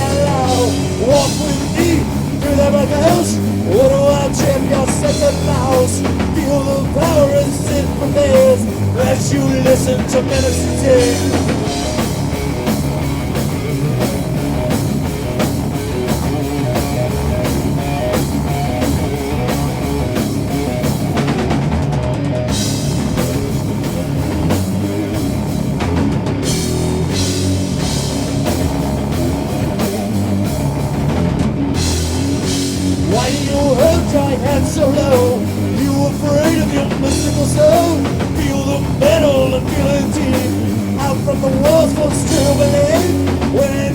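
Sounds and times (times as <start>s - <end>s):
bass guitar: 0.0s - 43.9s
drum kit: 0.0s - 43.9s
heavy electric guitar riff: 0.0s - 43.9s.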